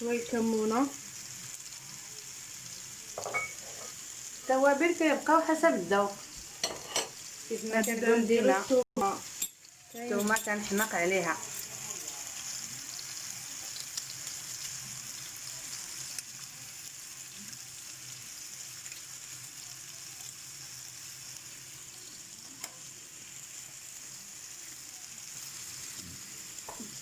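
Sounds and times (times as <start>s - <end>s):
oil and vegetables sizzling: 0.0s - 27.0s.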